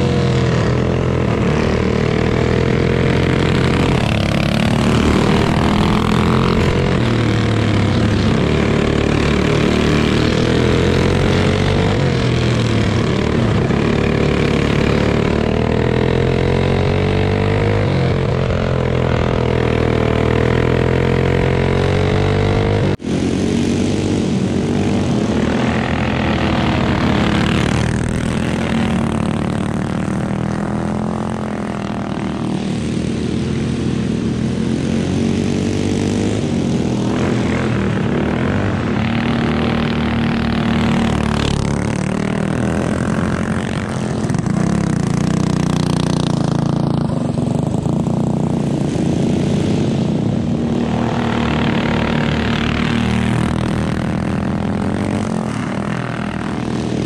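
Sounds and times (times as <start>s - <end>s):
go-kart engines racing: 0.0s - 57.0s.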